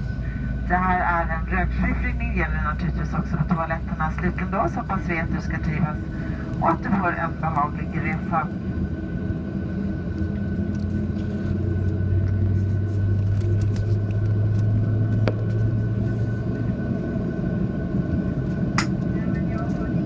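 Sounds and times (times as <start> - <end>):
airliner engine rumble: 0.0 - 20.0
low drone: 0.0 - 20.0.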